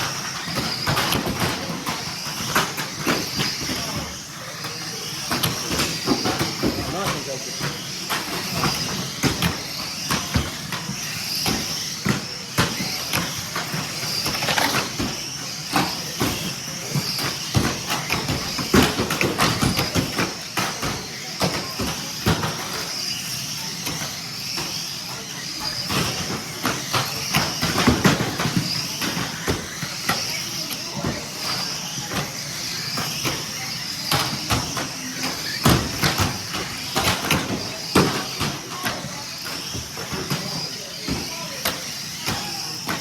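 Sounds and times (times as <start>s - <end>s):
radio-controlled car whine: 0.0s - 43.0s.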